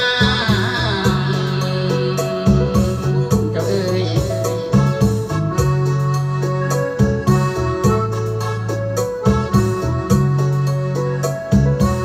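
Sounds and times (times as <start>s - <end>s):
electronic organ chords: 0.0s - 12.0s
sustained bass notes: 0.0s - 12.0s.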